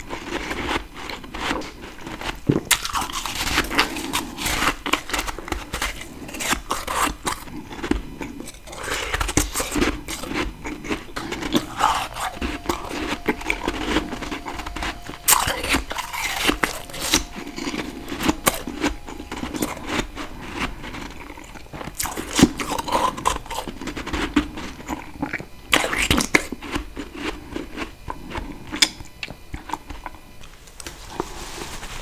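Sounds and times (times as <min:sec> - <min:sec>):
person chewing crunchy frost: 0:00.0 - 0:17.3, 0:18.0 - 0:30.2.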